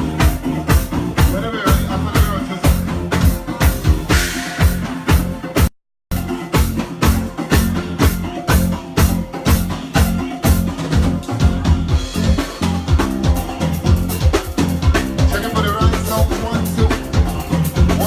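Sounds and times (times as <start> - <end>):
drum kit fast beat: 0.0 - 18.0
live band playing soca: 0.0 - 18.0.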